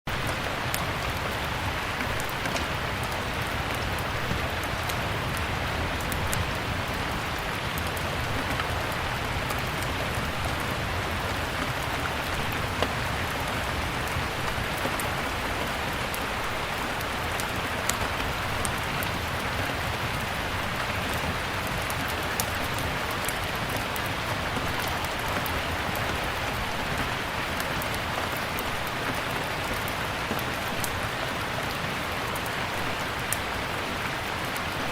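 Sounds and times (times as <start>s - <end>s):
steady rain: 0.1s - 34.9s
wood fire crackling: 0.1s - 34.9s.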